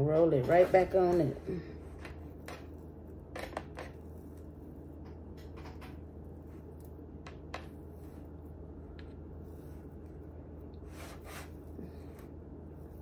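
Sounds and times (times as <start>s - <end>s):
dough rolled in metal pan: 0.0s - 13.0s
low hum: 1.3s - 13.0s.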